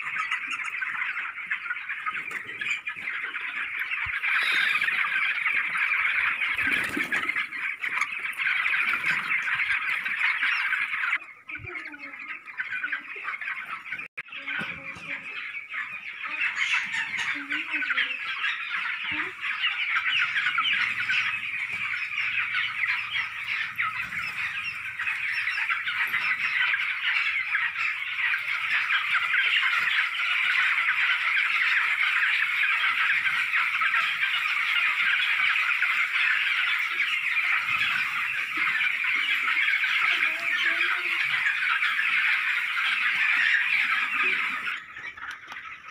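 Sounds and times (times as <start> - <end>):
chicks cheeping chorus: 0.0 - 45.9.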